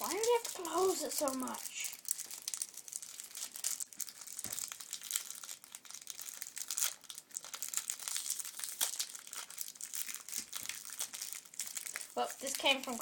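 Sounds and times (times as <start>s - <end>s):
bubble wrap crinkling and popping: 0.0s - 13.0s.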